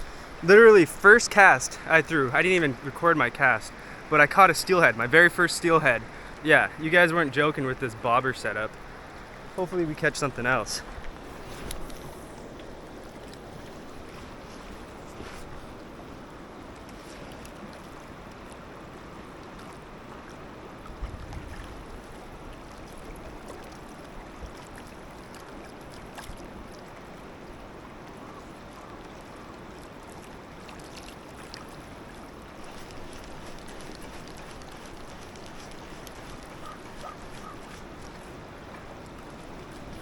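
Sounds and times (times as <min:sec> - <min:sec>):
river water flowing over rocks: 0:00.0 - 0:40.0.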